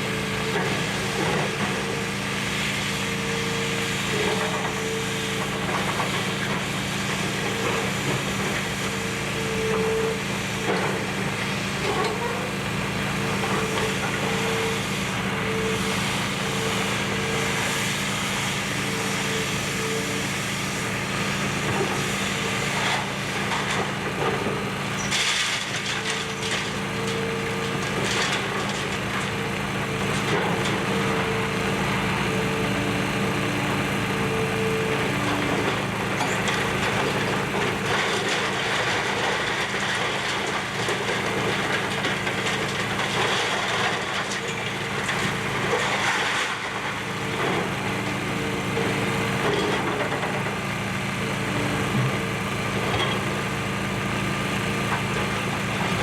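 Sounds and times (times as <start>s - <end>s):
excavator diesel engine running: 0.0s - 56.0s
hydraulic whine: 0.1s - 39.2s, 44.4s - 56.0s.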